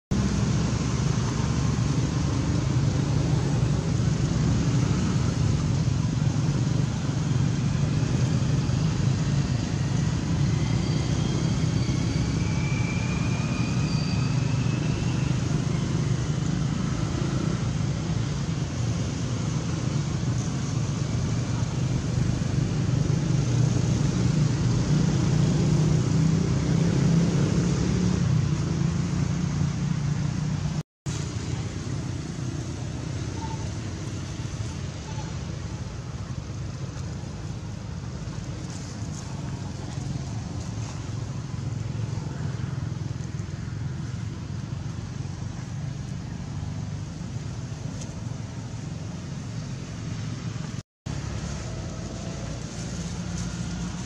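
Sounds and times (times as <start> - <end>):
low outdoor rumble: 0.1 - 54.0.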